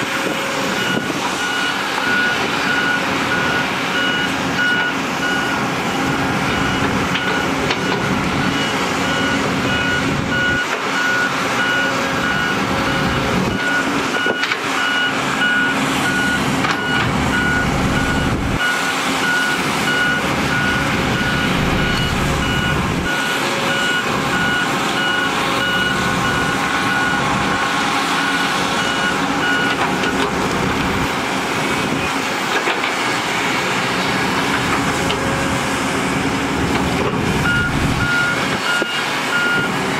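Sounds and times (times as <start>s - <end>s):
diesel engines rumbling: 0.0s - 39.9s
reversing alarm beeping: 0.4s - 30.2s, 37.4s - 39.8s.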